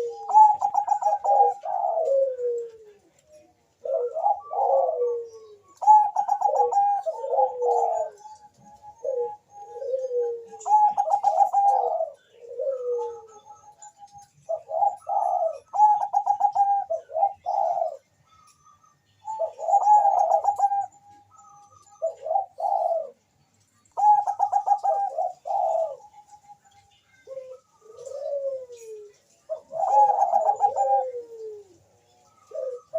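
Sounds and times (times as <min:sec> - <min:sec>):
dove cooing: 0:00.0 - 0:32.9.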